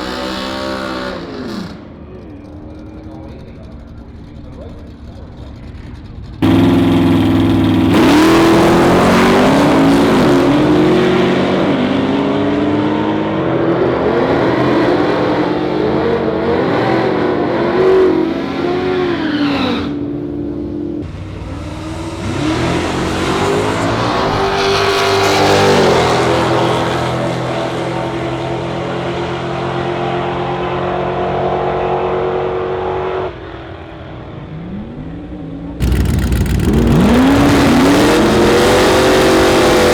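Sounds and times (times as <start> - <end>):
drag cars accelerating: 0.0 - 39.9.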